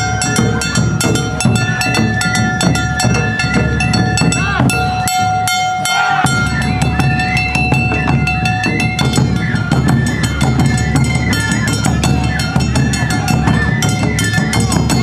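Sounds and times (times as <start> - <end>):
bamboo flute melody: 0.0 - 15.0
struck gongs: 0.0 - 15.0
taiko drums beating: 0.0 - 15.0.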